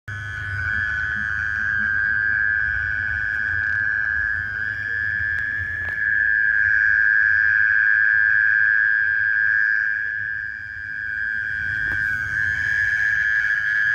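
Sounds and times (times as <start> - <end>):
insect trilling: 0.1 - 13.9.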